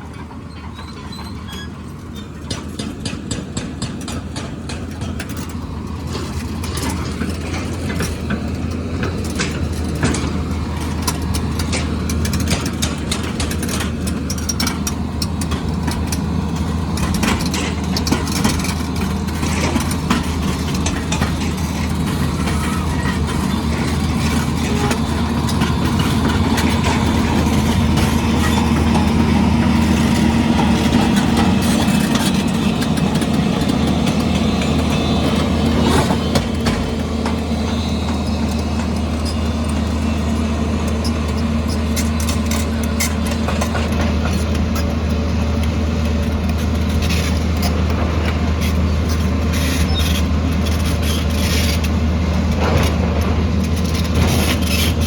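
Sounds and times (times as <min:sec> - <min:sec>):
construction machine engine droning: 0:00.0 - 0:55.0
metallic clicks and clanks: 0:00.1 - 0:55.0.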